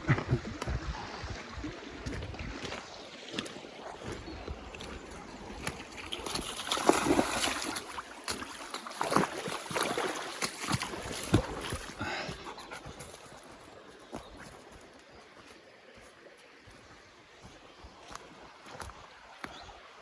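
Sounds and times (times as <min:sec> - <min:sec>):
splashing in shallow water: 0:00.0 - 0:19.9.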